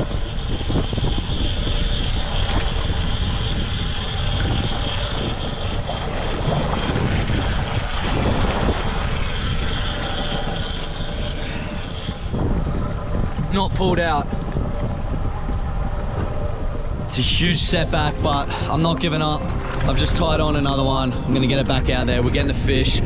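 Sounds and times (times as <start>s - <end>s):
boat motor droning: 0.0s - 23.0s
high whine: 0.0s - 23.0s
wind buffeting microphone: 0.0s - 23.0s.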